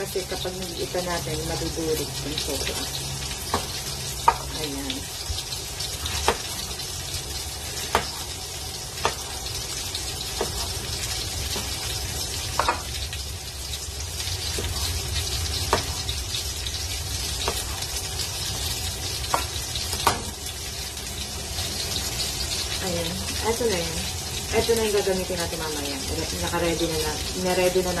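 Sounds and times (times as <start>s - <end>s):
meat sizzling in a pan: 0.0s - 28.0s.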